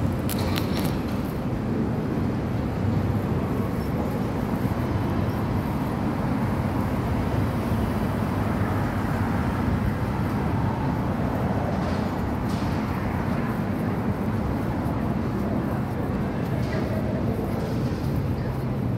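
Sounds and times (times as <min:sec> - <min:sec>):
city road traffic rumble: 0:00.0 - 0:18.9.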